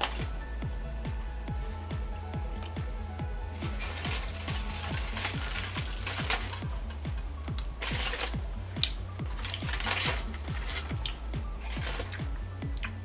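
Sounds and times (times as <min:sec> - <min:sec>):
electronic music with steady beat: 0:00.0 - 0:13.0.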